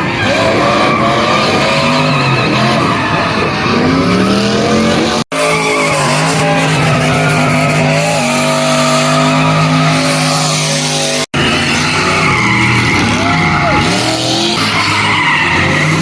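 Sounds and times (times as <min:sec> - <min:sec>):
car engine at high revs: 0:00.0 - 0:16.0
tyres squealing: 0:00.0 - 0:16.0.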